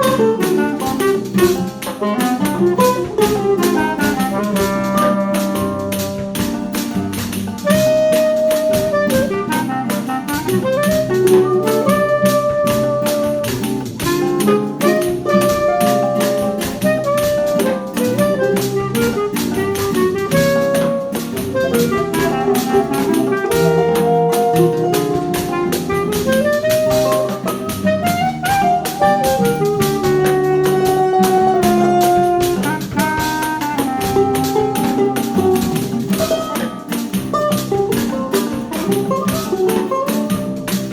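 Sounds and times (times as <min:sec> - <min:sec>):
instrumental ensemble playing: 0:00.0 - 0:40.9.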